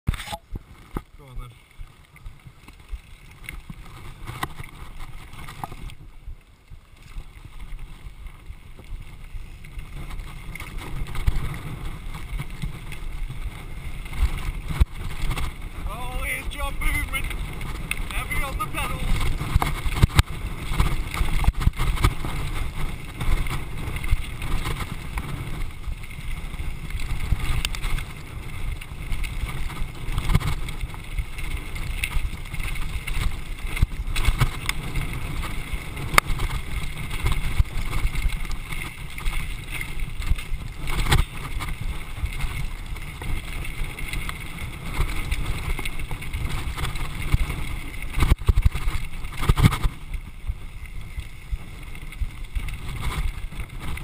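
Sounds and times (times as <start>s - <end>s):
bike rattling over bumps: 0.1s - 54.0s
wind buffeting microphone: 0.1s - 54.0s.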